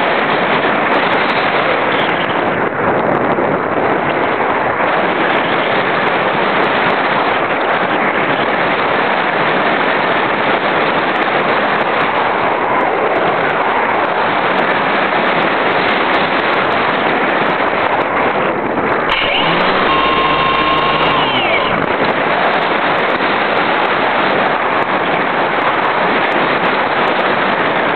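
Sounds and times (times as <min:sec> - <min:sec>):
wind noise on microphone: 0:00.0 - 0:27.9.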